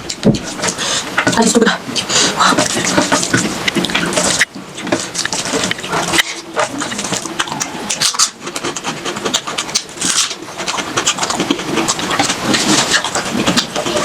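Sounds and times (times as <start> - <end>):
chewing pork: 0.0 - 14.0.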